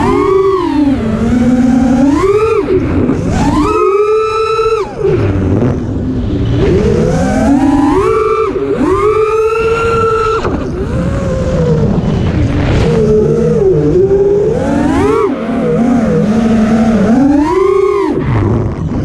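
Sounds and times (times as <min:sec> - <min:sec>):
drone motors whining: 0:00.0 - 0:19.0
propeller wash and wind rushing: 0:00.0 - 0:19.0.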